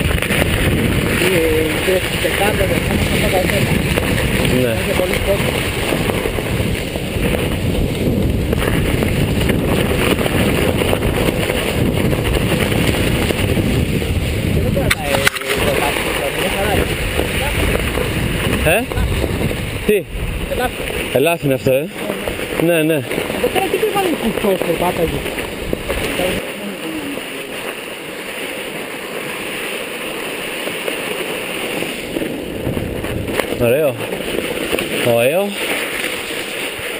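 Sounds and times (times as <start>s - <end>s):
wind buffeting microphone: 0.0s - 27.7s, 30.9s - 36.9s
bike rolling on snow: 0.0s - 36.9s.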